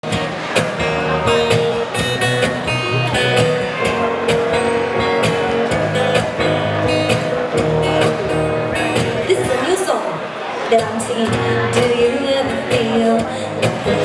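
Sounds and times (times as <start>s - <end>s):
strummed guitar: 0.0s - 10.2s, 10.8s - 14.0s.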